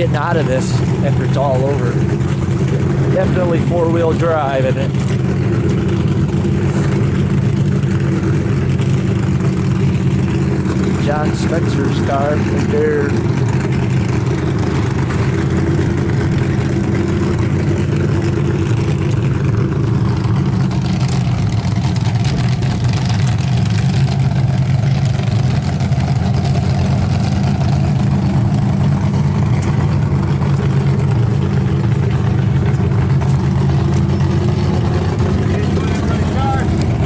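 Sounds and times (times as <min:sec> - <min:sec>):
engine idling: 0:00.0 - 0:37.0.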